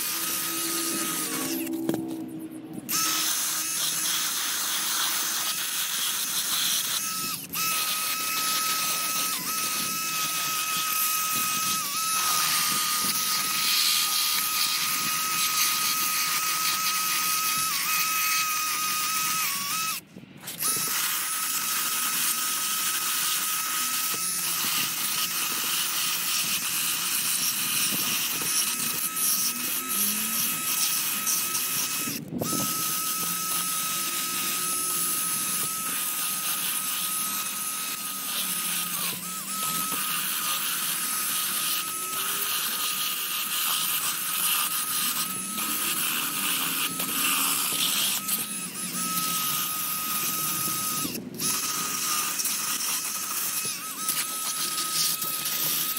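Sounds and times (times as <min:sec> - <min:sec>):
high-speed power tool whining: 0:00.0 - 0:55.9.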